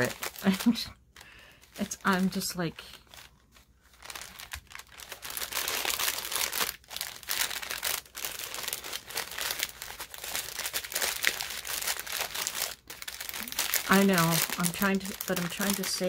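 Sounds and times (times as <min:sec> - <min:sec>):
paper packaging crinkling: 0:00.0 - 0:16.0.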